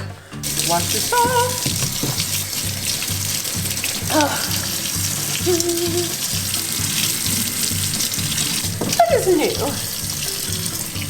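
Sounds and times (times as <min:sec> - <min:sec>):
background music with beat: 0:00.0 - 0:11.0
tap water running into sink: 0:00.4 - 0:11.0
utensils rinsed: 0:00.4 - 0:11.0.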